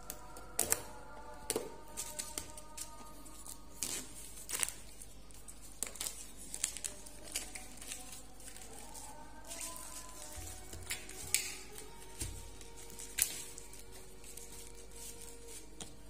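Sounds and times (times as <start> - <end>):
plastic packaging crinkling: 1.8 - 16.0.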